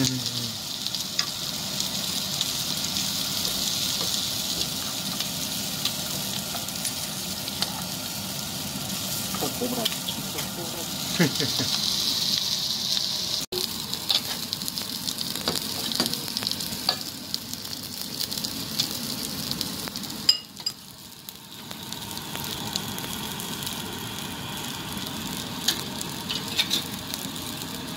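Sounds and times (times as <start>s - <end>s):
shrimp sizzling in a pan: 0.0s - 27.9s.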